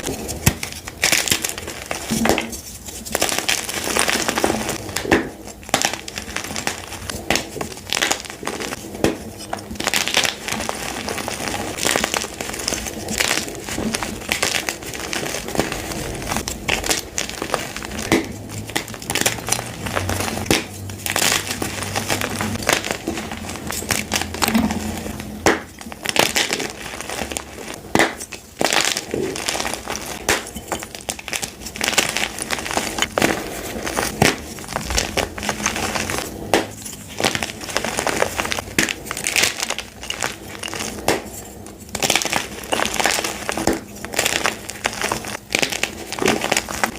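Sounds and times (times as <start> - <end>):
chalk being crushed: 0.0 - 46.9.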